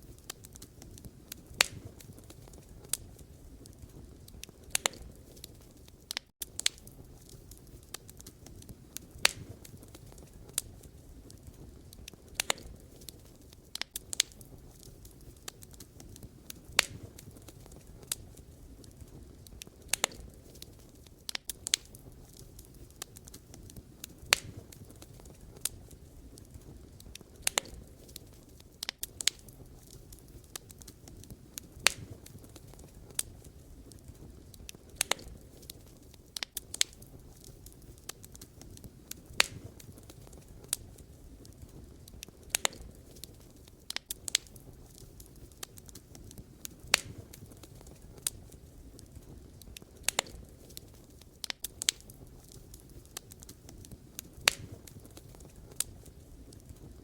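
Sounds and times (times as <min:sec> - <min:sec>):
campfire crackling and popping: 0:00.0 - 0:57.0
flames rushing: 0:00.0 - 0:57.0.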